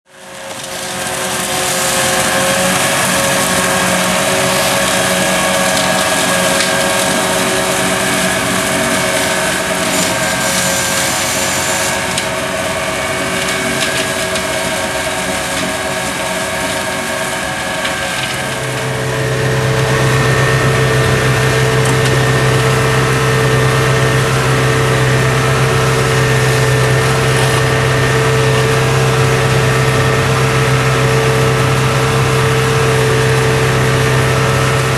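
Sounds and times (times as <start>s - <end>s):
deep hum inside tractor cab: 0.1s - 34.9s
tractor engine and flail mower: 0.1s - 34.9s.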